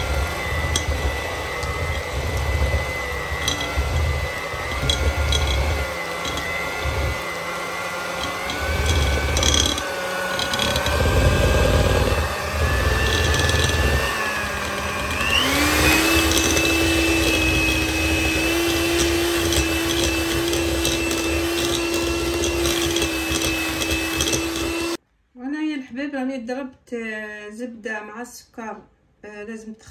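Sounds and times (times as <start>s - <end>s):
electric hand mixer whining: 0.0s - 25.0s.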